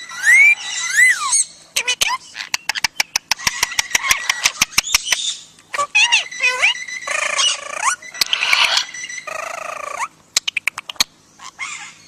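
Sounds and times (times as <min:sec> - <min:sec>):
parrot squawking: 0:00.0 - 0:12.0.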